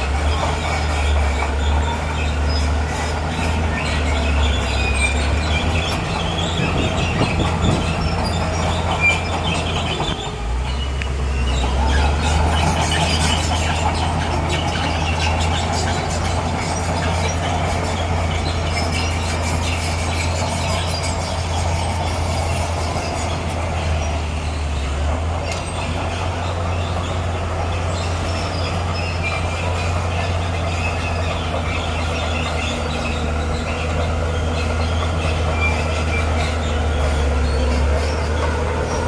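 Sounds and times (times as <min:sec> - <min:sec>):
bulldozer diesel engine: 0:00.0 - 0:39.0
crawler tracks squealing and clanking: 0:00.0 - 0:39.0.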